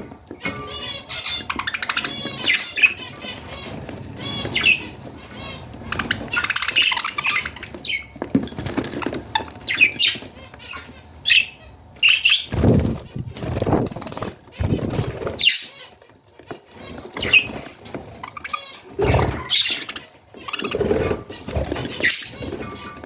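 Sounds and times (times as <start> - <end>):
budgerigars chirping: 0.0 - 23.0.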